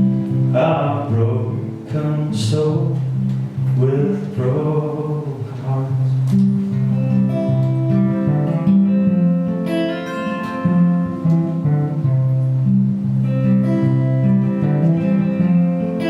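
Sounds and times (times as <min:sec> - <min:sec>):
bass notes: 0:00.0 - 0:16.0
guitar chords: 0:00.0 - 0:16.0.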